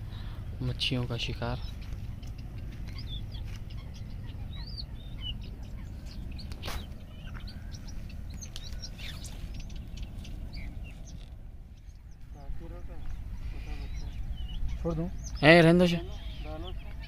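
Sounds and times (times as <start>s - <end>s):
small birds chirping: 0.0s - 17.0s
wind rumble on microphone: 0.0s - 17.0s.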